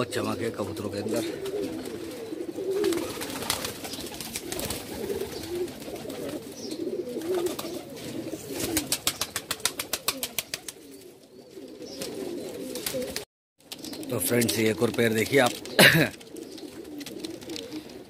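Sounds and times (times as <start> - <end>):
pigeons cooing: 0.0 - 18.0
wings flapping: 1.4 - 11.0, 12.0 - 18.0.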